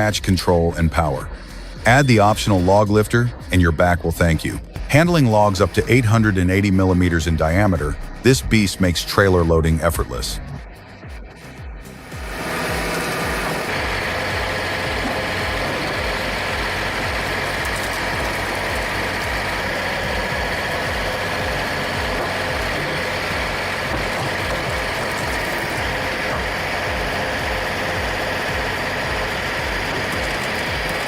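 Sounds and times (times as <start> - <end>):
high whine: 0.0 - 31.0
tractor engine running: 0.0 - 31.0.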